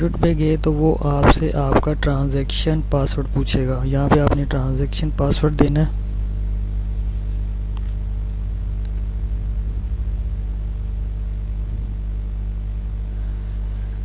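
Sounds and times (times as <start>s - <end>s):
buzzing electrical hum: 0.0s - 14.0s.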